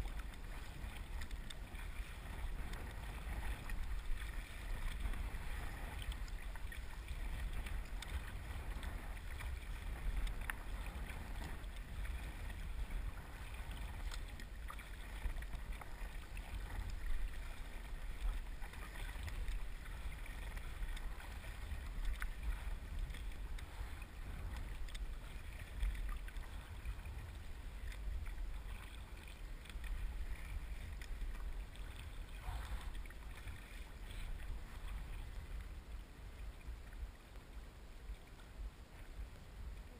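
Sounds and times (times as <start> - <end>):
paddle blades splashing: 0.0 - 39.9
water sloshing against hull: 0.0 - 39.9
wind rumble on microphone: 0.0 - 39.9.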